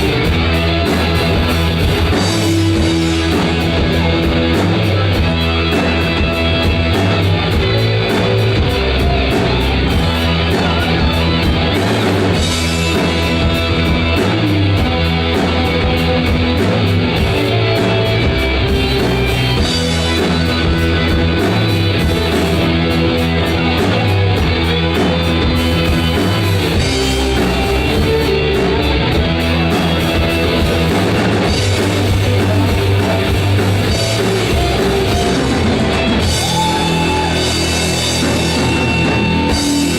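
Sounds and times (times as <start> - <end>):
heavy metal rock music: 0.0 - 39.9.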